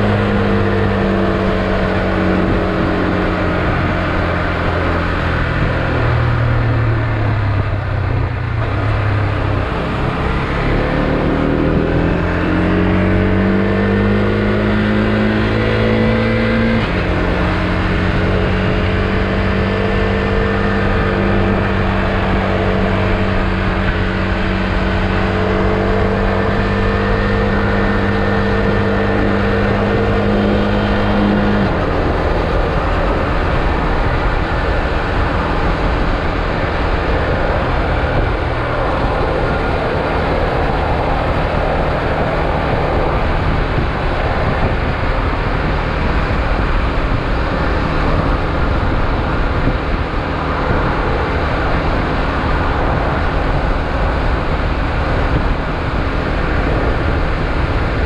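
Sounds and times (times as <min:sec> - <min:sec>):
motorcycle engine accelerating: 0:00.0 - 0:58.0
road noise: 0:00.0 - 0:58.0
wind rushing: 0:00.0 - 0:58.0.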